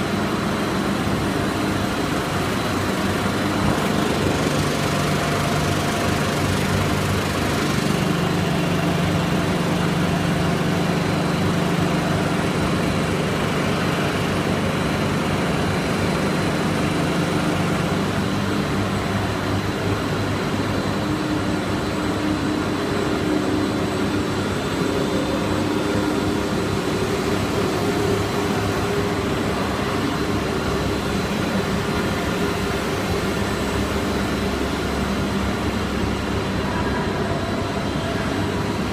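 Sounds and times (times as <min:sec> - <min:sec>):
factory machinery humming: 0:00.0 - 0:38.9.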